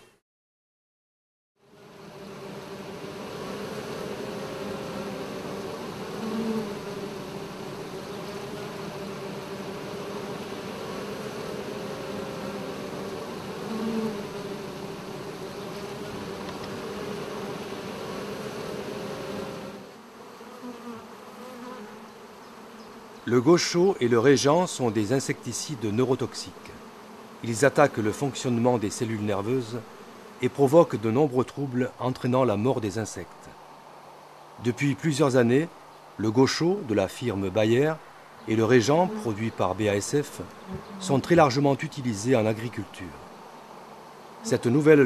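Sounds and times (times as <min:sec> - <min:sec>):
swarm of bees buzzing: 0:01.6 - 0:45.0.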